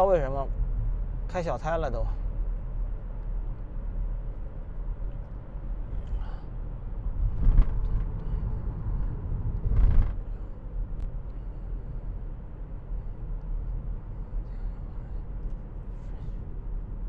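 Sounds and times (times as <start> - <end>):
car road noise: 0.0 - 17.0.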